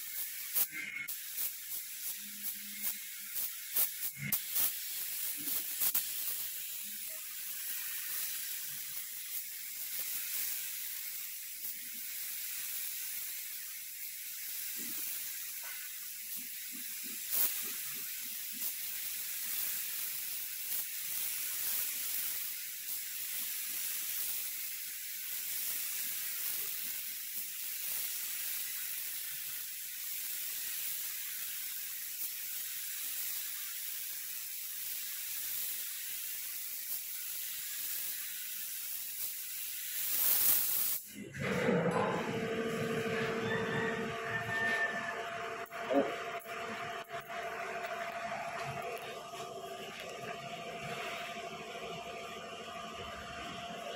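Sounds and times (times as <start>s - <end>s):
spray gun hissing: 0.0s - 53.9s.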